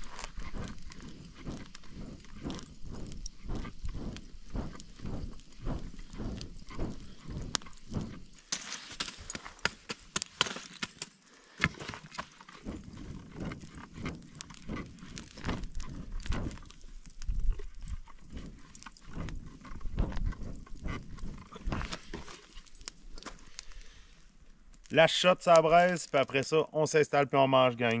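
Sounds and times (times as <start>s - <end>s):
flame hiss: 0.0s - 26.4s
campfire crackling and popping: 0.0s - 27.0s, 27.7s - 28.0s.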